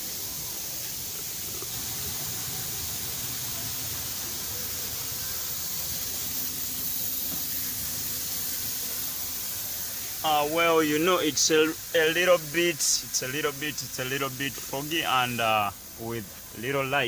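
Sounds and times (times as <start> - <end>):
faint steady hum: 0.0 - 17.0
steady hiss: 0.0 - 17.0.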